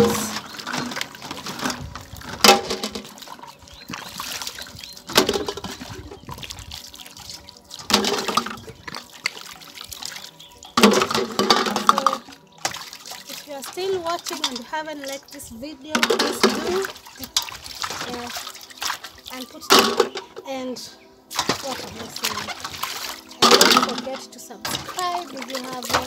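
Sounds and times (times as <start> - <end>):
water splashing in a metal basin: 0.0 - 26.0.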